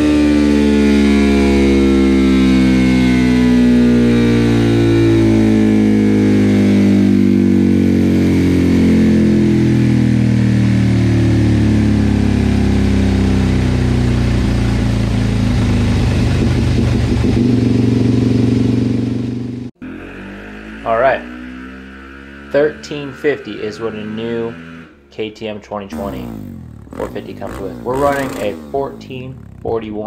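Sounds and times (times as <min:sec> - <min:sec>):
motorcycle engine running under load: 0:00.0 - 0:24.9, 0:25.9 - 0:30.0.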